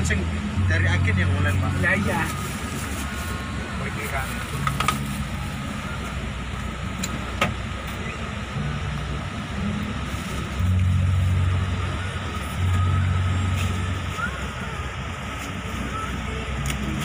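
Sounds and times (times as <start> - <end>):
bus engine and road rumble: 0.0 - 17.0
loud low drone: 0.0 - 17.0.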